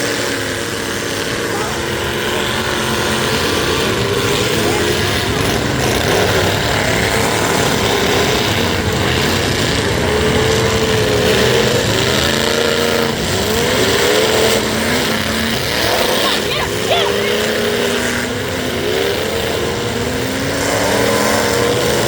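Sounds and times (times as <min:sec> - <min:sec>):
truck engines revving: 0:00.0 - 0:22.0.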